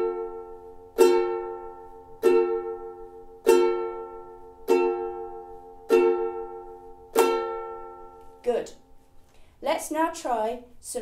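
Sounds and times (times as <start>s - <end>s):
ukulele strums: 0.0s - 9.2s.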